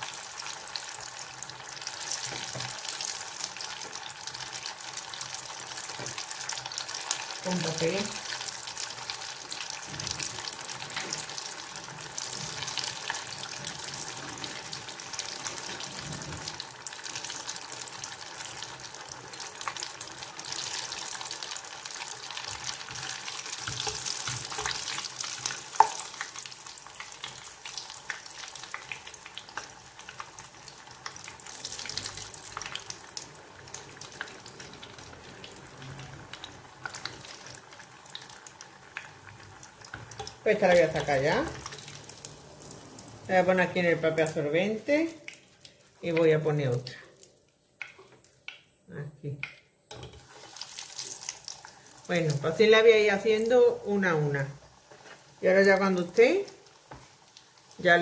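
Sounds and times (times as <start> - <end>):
oil sizzling and crackling: 0.0 - 58.0.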